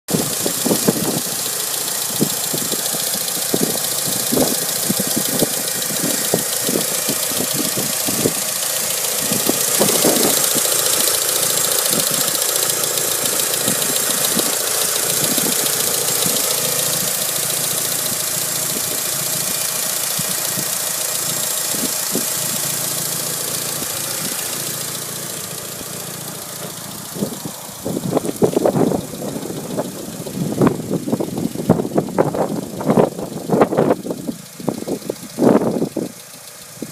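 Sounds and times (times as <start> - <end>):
car engine humming: 0.0 - 36.9
engine ticking: 0.0 - 36.9.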